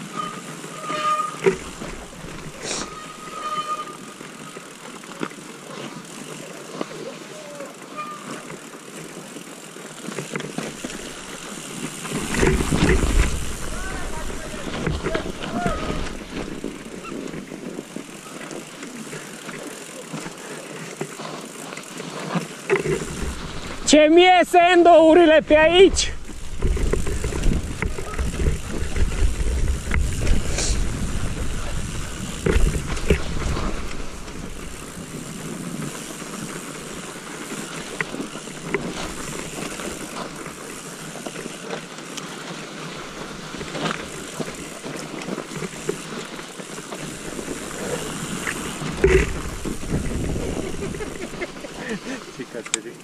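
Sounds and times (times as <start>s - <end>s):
bike knocks and rattles: 0.0s - 6.2s, 10.0s - 24.2s, 24.9s - 42.2s, 43.0s - 52.7s
tyres crunching in snow: 0.0s - 53.0s.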